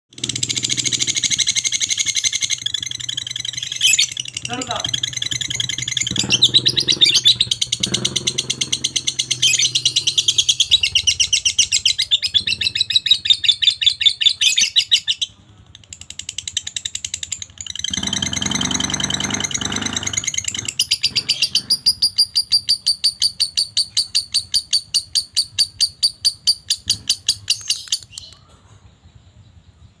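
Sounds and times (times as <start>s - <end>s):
lovebird chattering shrill trill: 0.2s - 28.4s.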